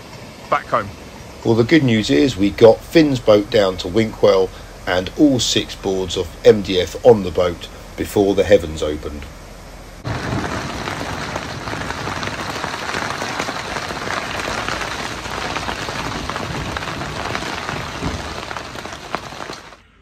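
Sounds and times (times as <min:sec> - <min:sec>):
heavy rain on a boat roof: 0:00.0 - 0:19.8.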